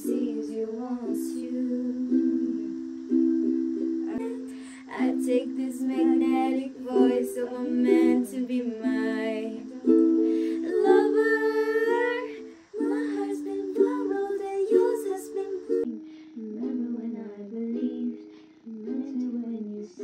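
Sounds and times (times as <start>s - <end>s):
women singing: 0.0s - 2.9s, 4.1s - 20.0s
ukulele strumming chords: 0.0s - 19.6s.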